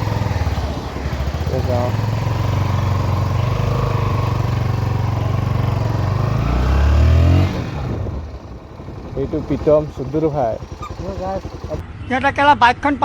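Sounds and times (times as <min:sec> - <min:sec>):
motorcycle engine riding off: 0:00.0 - 0:11.8.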